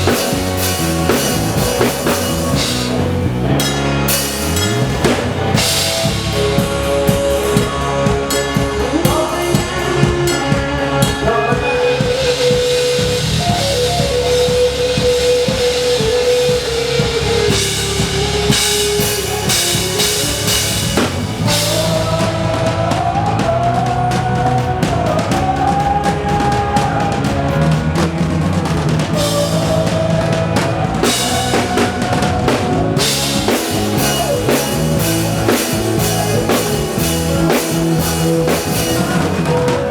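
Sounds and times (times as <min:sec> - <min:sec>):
gliding lead melody: 0:00.0 - 0:23.1, 0:27.6 - 0:39.9
bass: 0:00.0 - 0:39.9
drums: 0:00.0 - 0:39.9.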